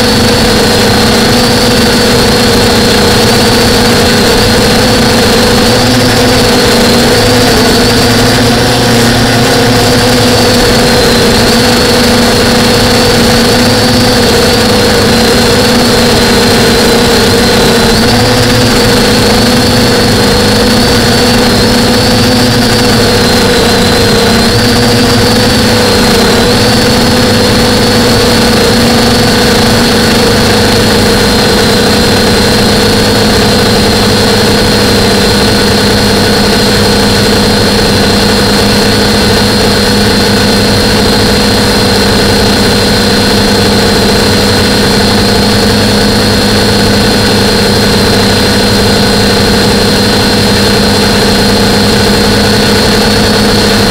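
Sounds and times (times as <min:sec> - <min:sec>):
drone motors whining: 0:00.0 - 0:53.9.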